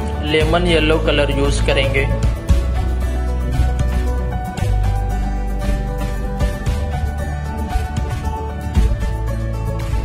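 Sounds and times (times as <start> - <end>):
background music with bass: 0.0 - 10.0.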